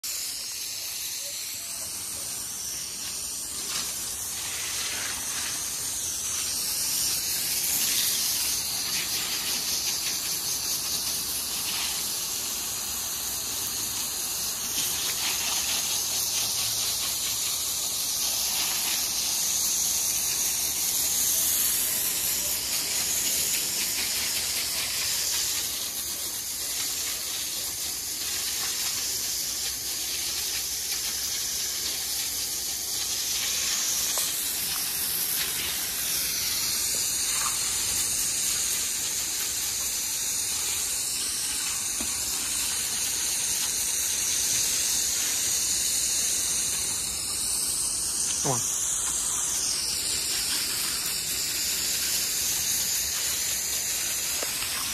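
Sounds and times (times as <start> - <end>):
hose spraying water: 0.0 - 54.9.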